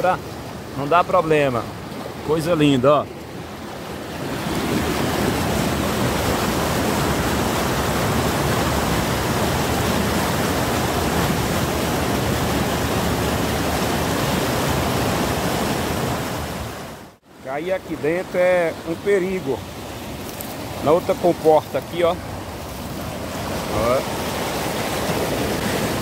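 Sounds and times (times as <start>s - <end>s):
floodwater rushing through culvert: 0.0s - 26.0s.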